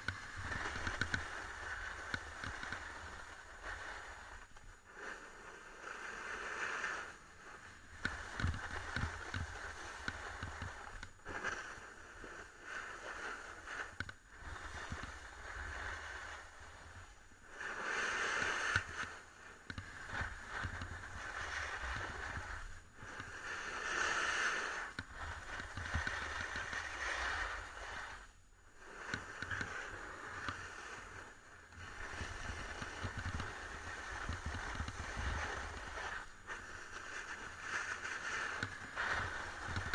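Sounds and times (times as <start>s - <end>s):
skis scraping on hard snow: 0.0s - 39.9s.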